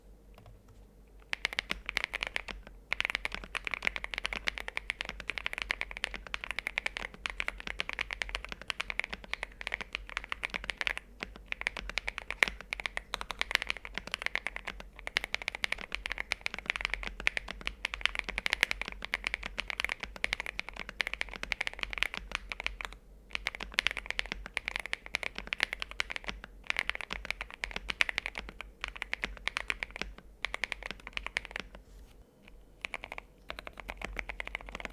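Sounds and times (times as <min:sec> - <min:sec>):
mechanical keyboard typing: 0:01.2 - 0:31.8, 0:32.4 - 0:34.9.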